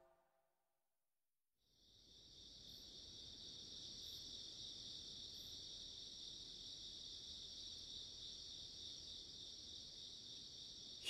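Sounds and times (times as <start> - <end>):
crickets chirping: 1.7 - 11.0.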